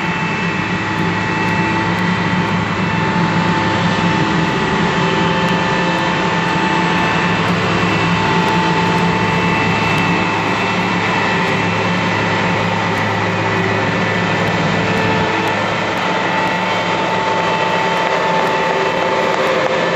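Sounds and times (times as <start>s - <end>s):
combine harvester engine drone: 0.0s - 19.9s
high whines from drives: 0.0s - 19.9s.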